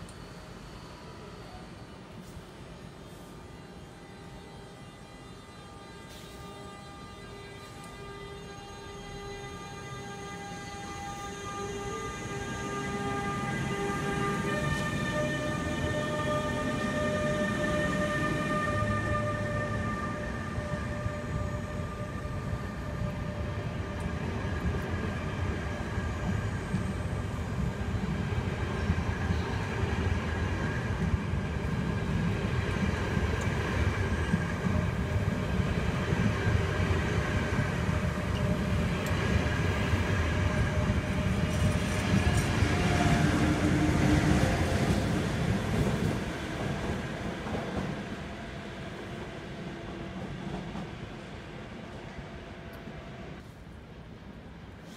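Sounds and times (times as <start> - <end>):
train wheels rumbling on rails: 9.2 - 53.5.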